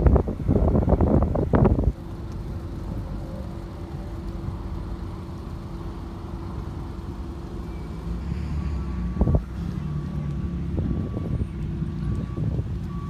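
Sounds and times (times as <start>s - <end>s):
distant car engine running: 0.0s - 13.0s.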